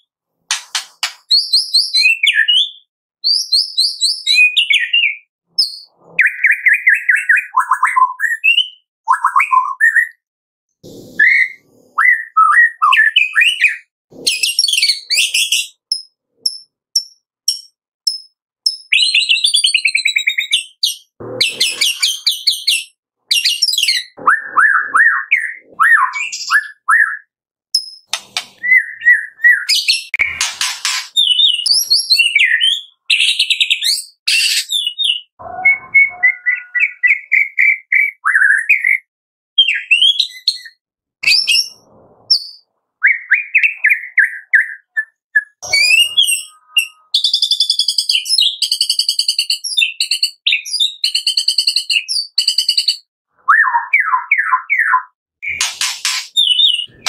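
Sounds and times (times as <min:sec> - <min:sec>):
bird singing whistled phrases: 0:01.3 - 0:10.2, 0:11.2 - 0:15.8, 0:18.1 - 0:57.0.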